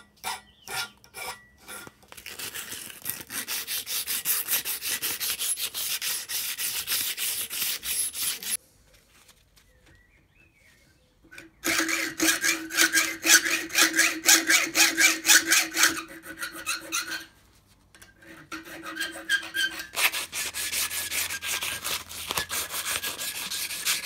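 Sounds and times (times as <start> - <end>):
hacksaw cutting brass: 0.0 - 8.6, 11.6 - 17.3, 18.2 - 24.0.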